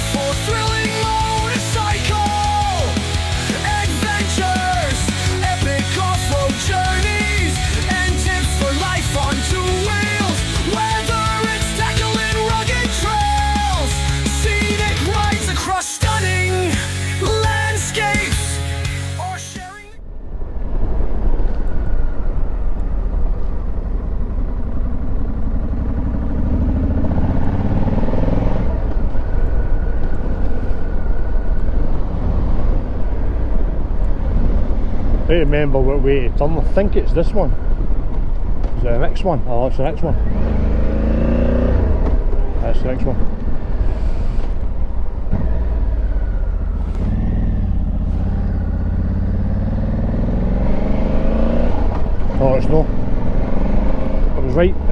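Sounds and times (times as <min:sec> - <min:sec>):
motorcycle engine running: 0:00.0 - 0:19.7, 0:21.2 - 0:35.8, 0:37.5 - 0:54.9.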